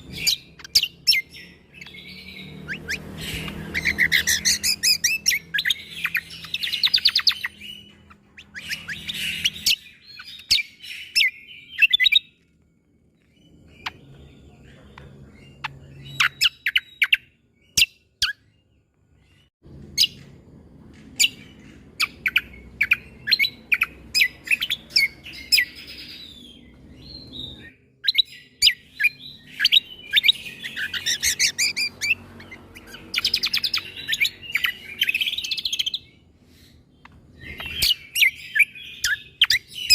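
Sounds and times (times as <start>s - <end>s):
bird singing sharp notes and trills: 0.0s - 39.9s.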